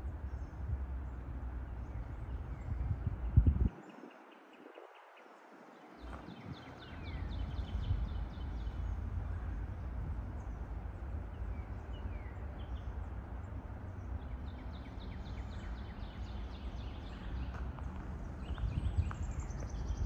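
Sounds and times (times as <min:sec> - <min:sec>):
steady low rumble: 0:00.0 - 0:03.8, 0:06.0 - 0:20.0.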